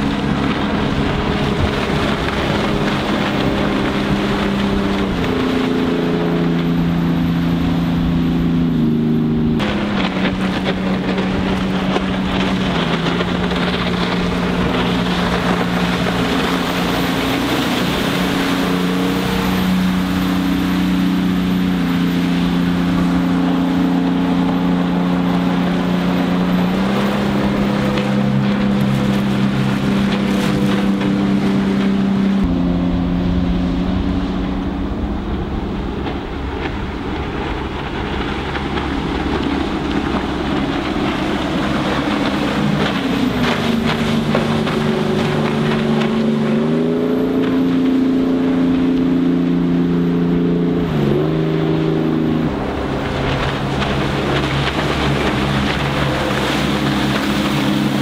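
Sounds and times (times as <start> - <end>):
boat diesel engine drone: 0.0 - 58.0
water rushing: 0.0 - 58.0
wind on microphone: 0.0 - 58.0.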